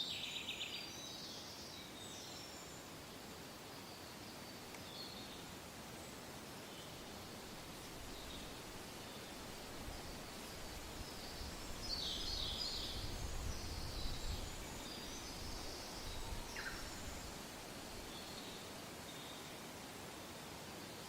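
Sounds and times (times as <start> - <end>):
soft wind blowing: 1.4 - 20.9.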